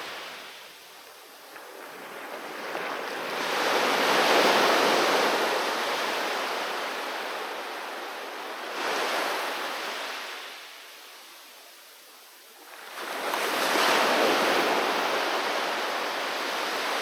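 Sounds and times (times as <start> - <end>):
sea waves crashing on shore: 0.0 - 11.2, 12.6 - 17.0.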